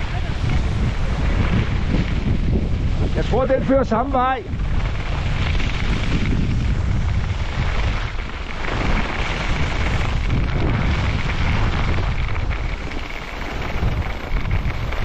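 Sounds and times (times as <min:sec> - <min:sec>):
skis sliding on snow: 0:00.0 - 0:15.0
wind buffeting microphone: 0:00.0 - 0:15.0.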